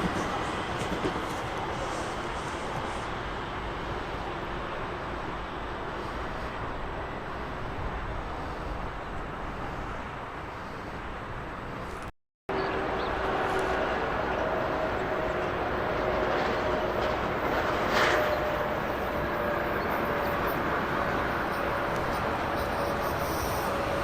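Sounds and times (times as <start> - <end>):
train rushing through station: 0.0 - 24.0.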